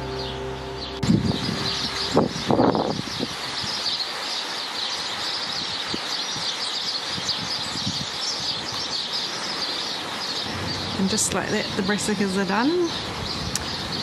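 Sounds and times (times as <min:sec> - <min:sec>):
high chirping chorus: 0:00.0 - 0:14.0
wind through trees: 0:00.0 - 0:14.0.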